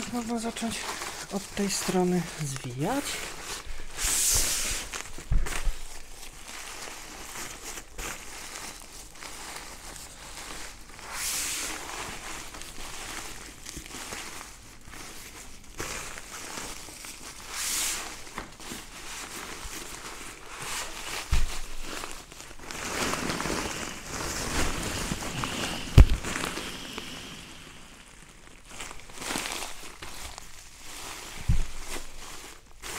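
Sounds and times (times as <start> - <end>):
sleeping pad fabric crinkling: 0.0 - 32.9.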